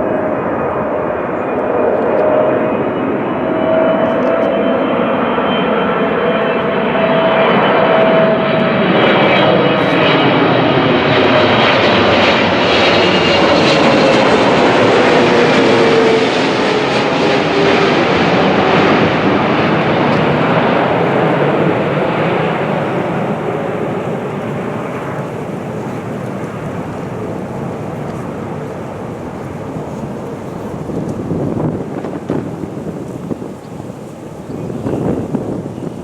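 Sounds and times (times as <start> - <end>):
jet airliner engine roar: 0.0 - 36.0
jet whine falling in pitch: 0.0 - 36.0.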